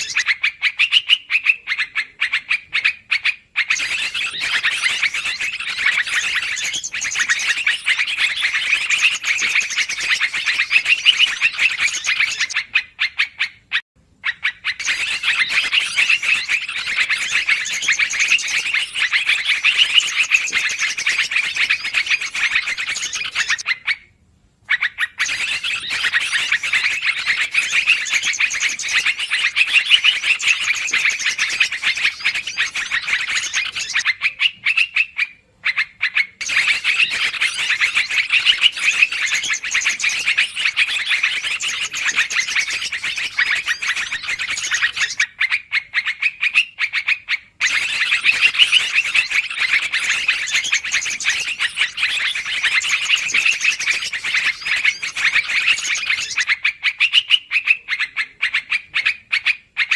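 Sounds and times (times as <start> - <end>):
bulbuls chattering: 0.0 - 12.9, 14.3 - 23.7, 25.2 - 45.2, 47.6 - 56.6.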